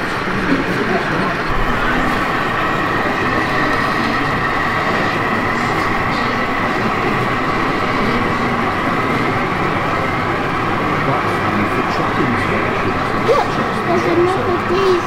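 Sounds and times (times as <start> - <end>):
exhibition hall background noise: 0.0 - 15.0
model train motor whine: 0.1 - 15.0.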